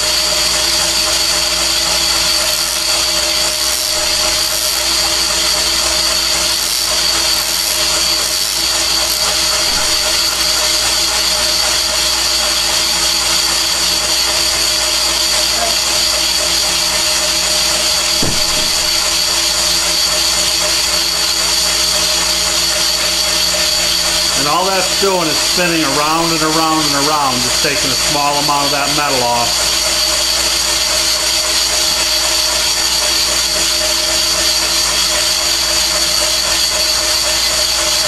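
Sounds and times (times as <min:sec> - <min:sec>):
boring machine whirring: 0:02.3 - 0:35.2.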